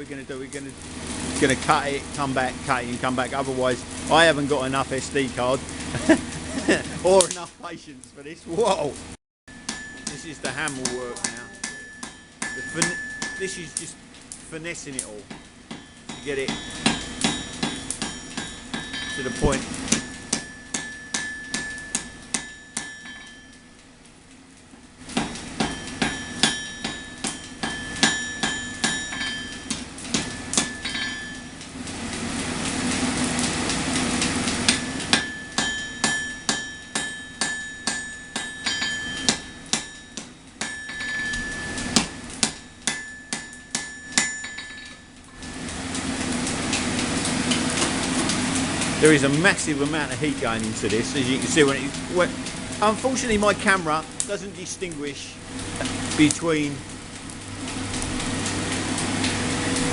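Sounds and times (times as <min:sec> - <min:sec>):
power hammer striking hot steel: 0:08.6 - 0:23.9, 0:25.0 - 0:59.9.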